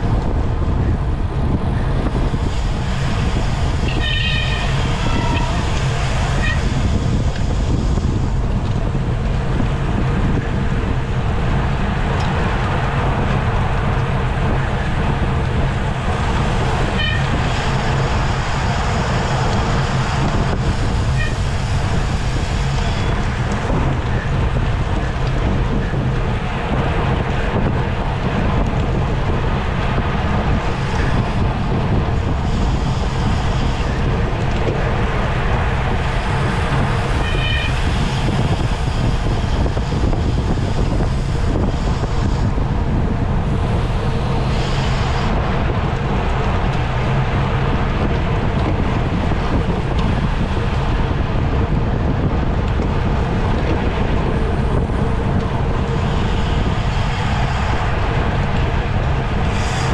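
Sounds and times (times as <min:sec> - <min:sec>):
road noise: 0:00.0 - 0:59.9
wind rushing over microphone: 0:00.0 - 0:59.9.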